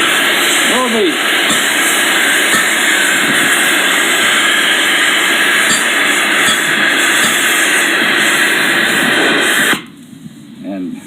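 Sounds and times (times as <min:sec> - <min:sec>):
gas torch flame hissing: 0:00.0 - 0:10.6.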